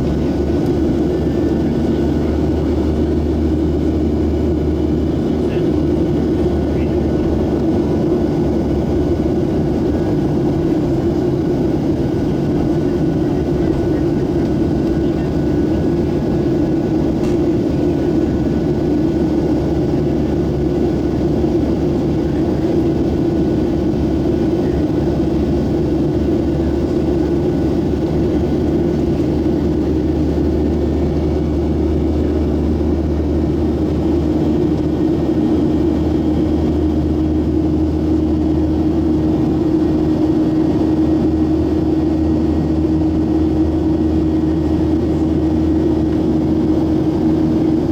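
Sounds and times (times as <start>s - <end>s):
jet engines droning: 0.0s - 47.9s.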